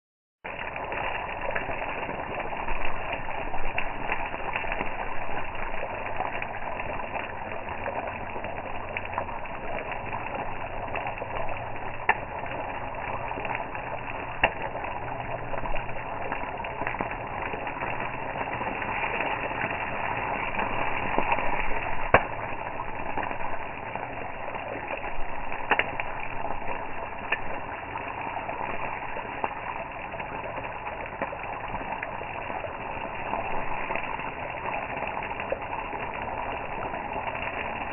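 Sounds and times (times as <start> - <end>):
campfire crackling and popping: 0.4 - 37.9.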